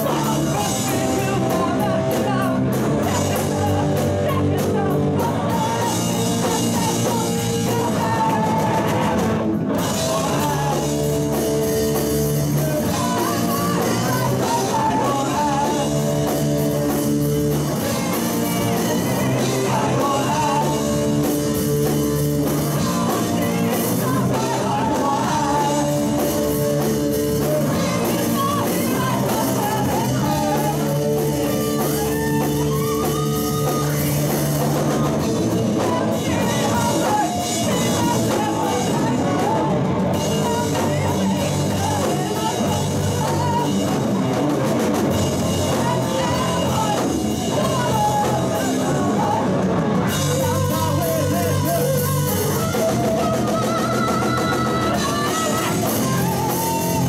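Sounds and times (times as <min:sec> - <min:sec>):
person singing: 0:00.0 - 0:57.0
rock band playing live: 0:00.0 - 0:57.0.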